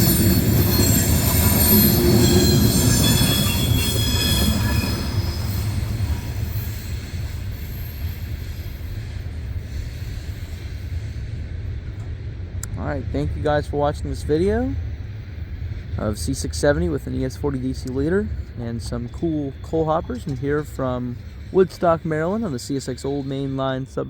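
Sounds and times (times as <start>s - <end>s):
train wheels squealing: 0.0s - 11.6s, 13.2s - 24.0s
train low rumble: 0.0s - 24.0s.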